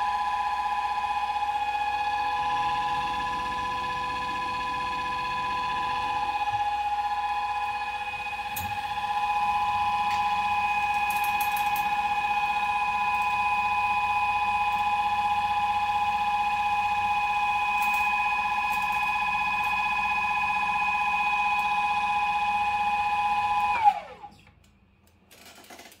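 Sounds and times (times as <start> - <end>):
electric motor whining: 0.9 - 24.4.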